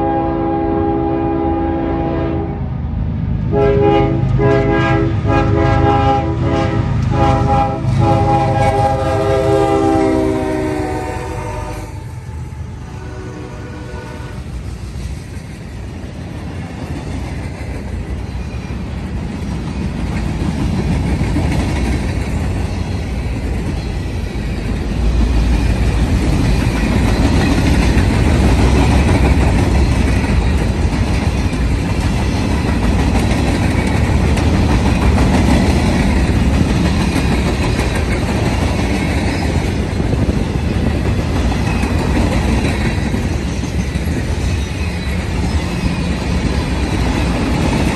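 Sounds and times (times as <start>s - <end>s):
freight train rumbling on rails: 0.0s - 47.9s.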